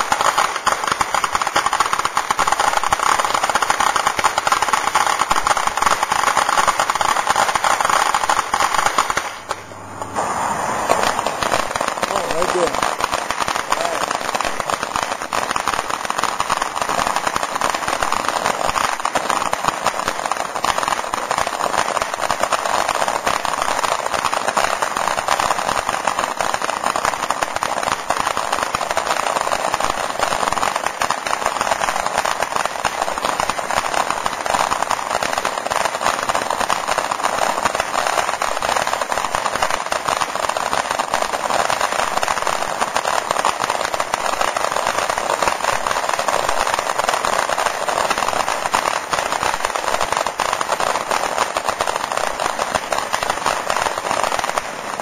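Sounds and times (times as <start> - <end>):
firework hissing crackle: 0.0 - 55.0.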